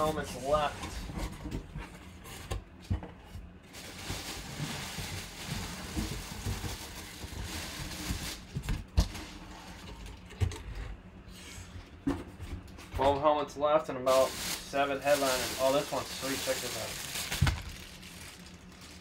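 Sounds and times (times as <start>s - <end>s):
cardboard and plastic rustling: 0.0s - 10.6s, 14.0s - 19.0s.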